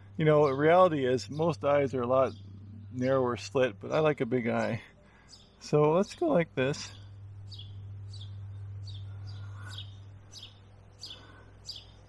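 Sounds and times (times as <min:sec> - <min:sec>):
low steady hum: 0:00.0 - 0:12.0
songbirds chirping: 0:00.0 - 0:12.0.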